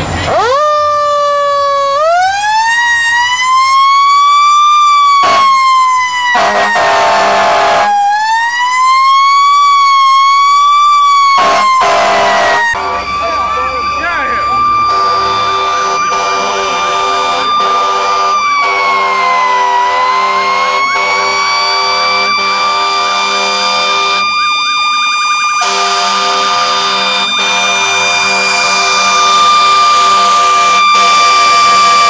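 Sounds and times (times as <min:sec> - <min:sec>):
brief siren sweeps: 0:00.0 - 0:32.0
fire engine siren: 0:00.0 - 0:32.0
lower steady siren tones: 0:00.0 - 0:32.0.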